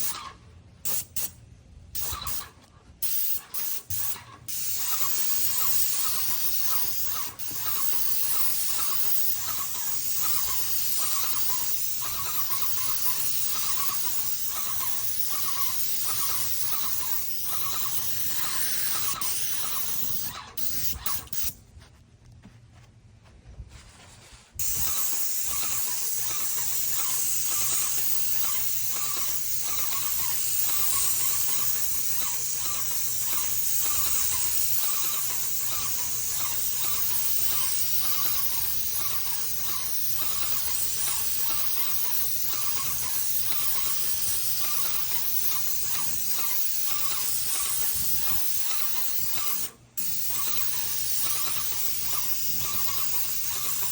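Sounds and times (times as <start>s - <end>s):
paint sprayer hissing: 0.0s - 21.6s, 24.6s - 53.9s.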